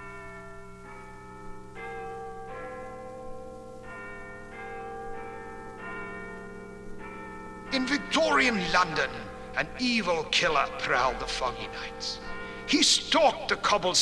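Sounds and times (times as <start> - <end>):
bells chiming: 0.0 - 14.0.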